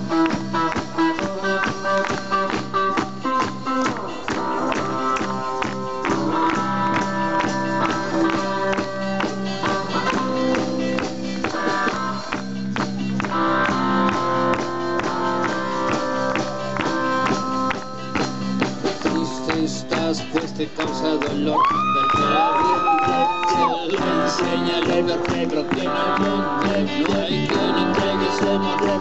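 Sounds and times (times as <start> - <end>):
drum kit beat: 0.0 - 29.0
electric guitars: 0.0 - 29.0.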